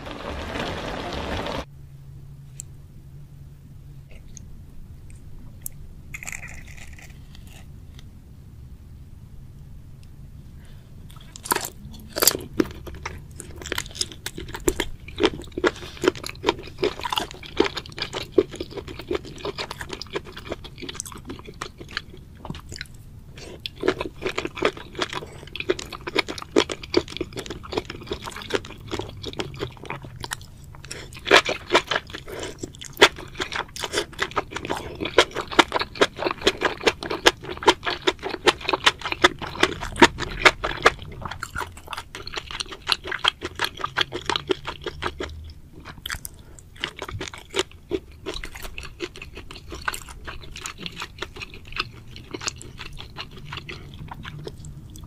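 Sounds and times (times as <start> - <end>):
wet crunching chews: 5.1 - 8.1, 11.1 - 55.0.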